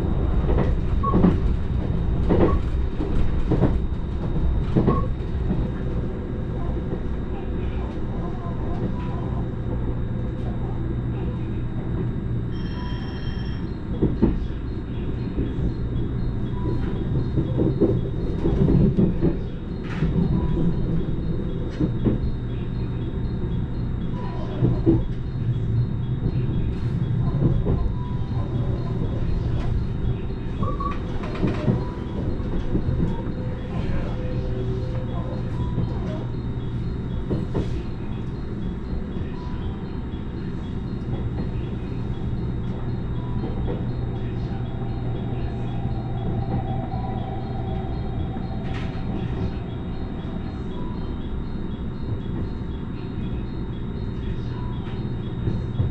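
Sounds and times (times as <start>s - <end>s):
constant hum: 0.0s - 55.9s
train cabin rumble: 0.0s - 55.9s.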